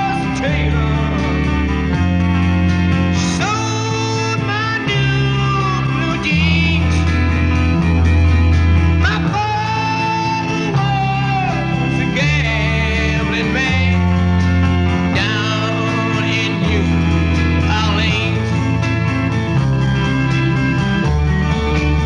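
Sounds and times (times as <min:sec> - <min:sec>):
rock song with male vocals: 0:00.0 - 0:22.0.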